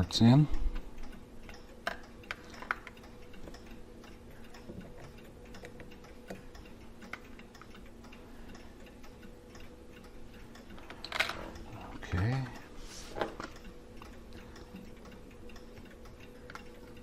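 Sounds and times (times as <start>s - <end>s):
faint steady hum: 0.0s - 17.0s
metallic clicks of clock parts: 0.0s - 17.0s.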